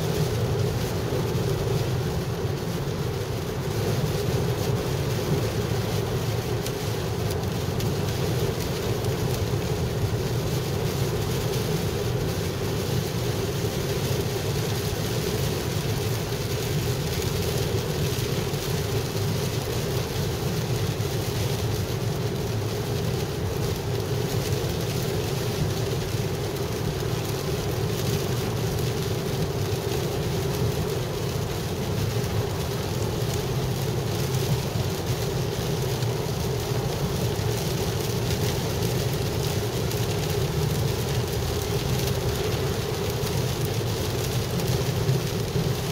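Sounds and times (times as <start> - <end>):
heavy rain on car roof: 0.0 - 45.9
road and tyre noise: 0.0 - 45.9.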